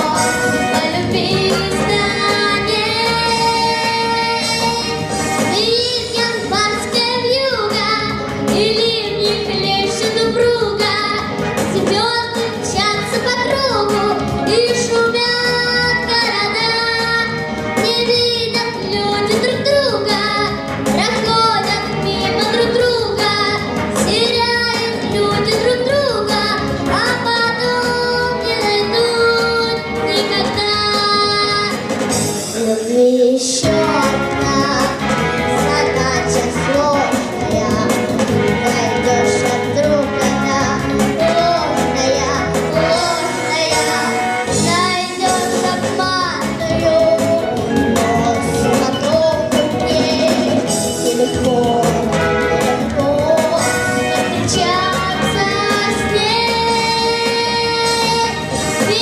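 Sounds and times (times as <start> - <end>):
girl singing: 0.0 - 31.9, 32.6 - 52.1, 52.7 - 59.0
instrumental accompaniment: 0.0 - 59.0.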